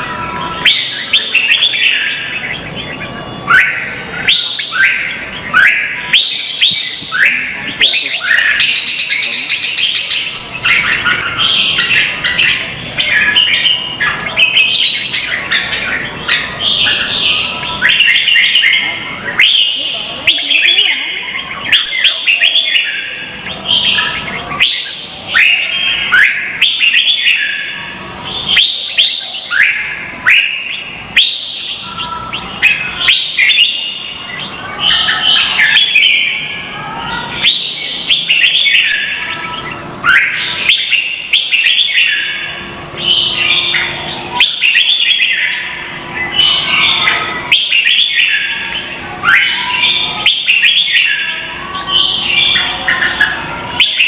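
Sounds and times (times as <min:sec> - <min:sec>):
birds whistling song: 0:00.0 - 0:54.0.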